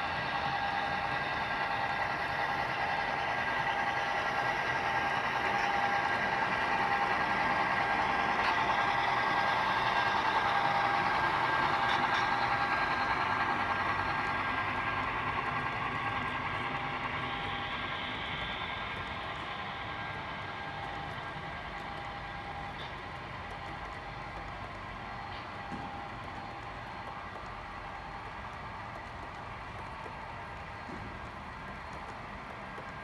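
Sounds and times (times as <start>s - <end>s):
model train running on track: 0.0s - 33.0s.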